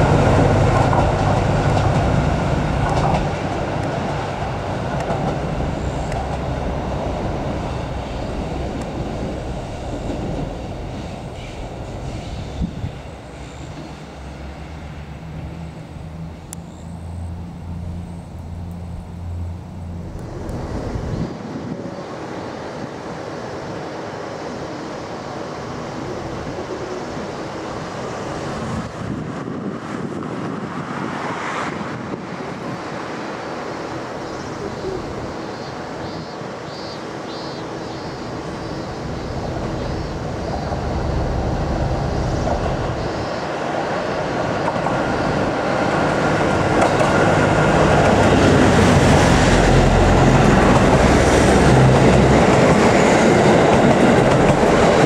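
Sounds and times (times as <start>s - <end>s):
diesel train approaching: 0.0s - 55.0s.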